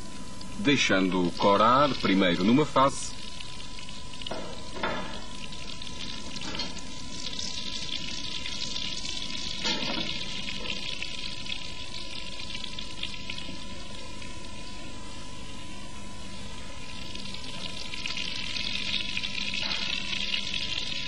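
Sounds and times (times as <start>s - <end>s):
steak sizzling in butter: 0.2s - 21.0s.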